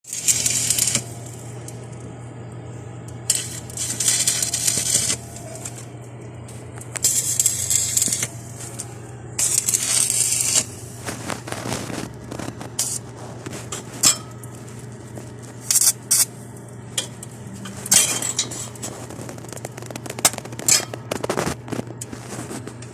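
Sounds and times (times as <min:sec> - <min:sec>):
arc welding crackling hiss: 0:00.0 - 0:02.0, 0:02.7 - 0:22.9
steady low hum: 0:00.0 - 0:22.9.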